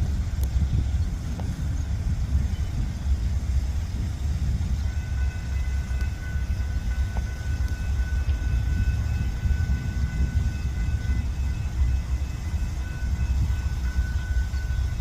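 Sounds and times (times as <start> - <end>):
truck rumbling on rails: 0.0 - 15.0.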